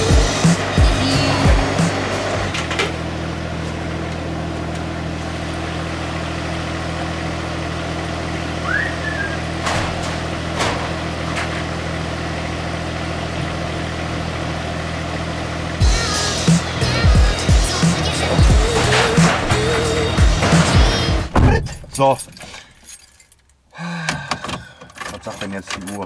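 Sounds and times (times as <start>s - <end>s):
forklift engine idling: 0.0s - 21.3s.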